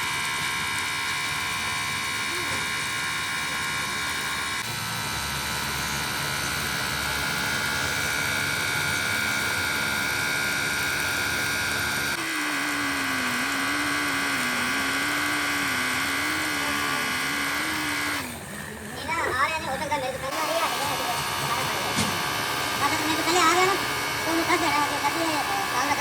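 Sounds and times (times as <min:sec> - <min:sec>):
electric machinery whine: 0:00.0 - 0:26.0.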